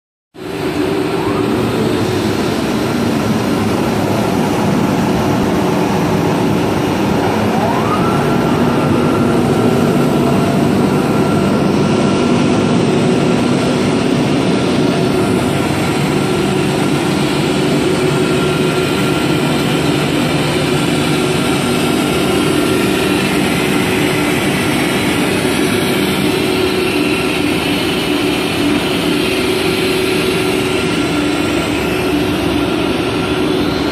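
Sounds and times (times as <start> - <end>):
industrial machinery hum: 0.4 - 33.9
rising whine: 0.4 - 33.9.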